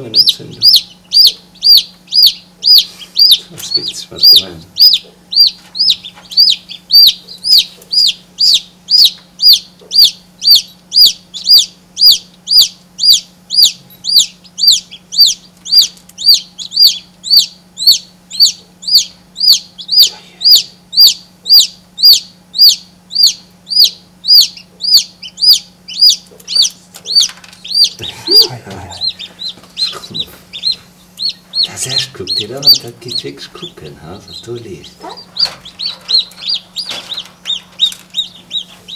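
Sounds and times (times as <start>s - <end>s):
chick peeping: 0.0s - 38.9s.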